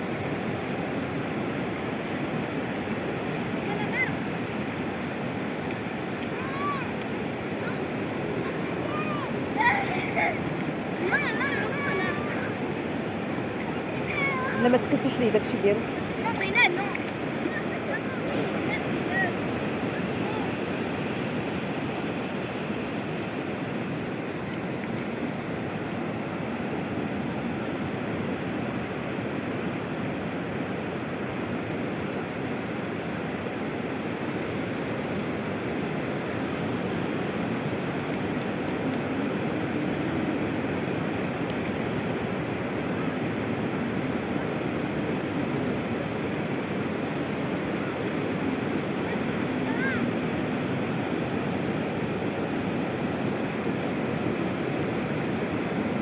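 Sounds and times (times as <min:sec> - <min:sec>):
sea surf washing onto shore: 0:00.0 - 0:56.0.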